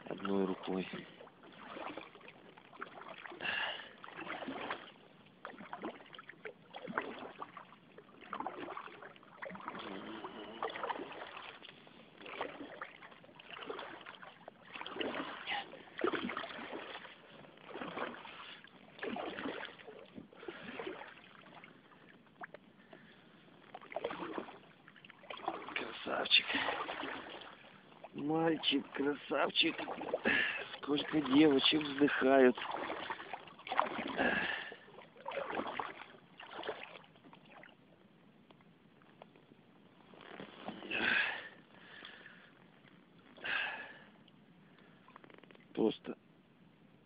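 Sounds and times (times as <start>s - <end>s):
paddle strokes in water: 0.0s - 45.8s.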